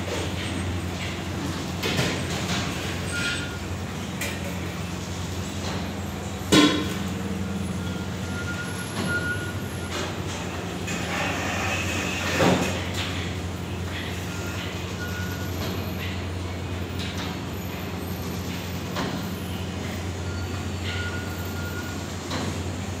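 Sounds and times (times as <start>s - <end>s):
conveyor belt and rollers rattling: 0.0s - 23.0s.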